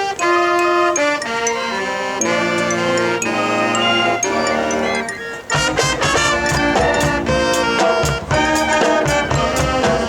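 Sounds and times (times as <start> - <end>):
marching band music: 0.0 - 10.0.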